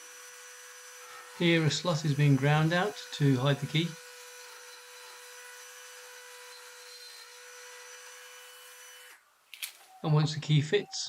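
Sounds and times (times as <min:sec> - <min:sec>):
power tool grinding wood: 0:00.0 - 0:09.2.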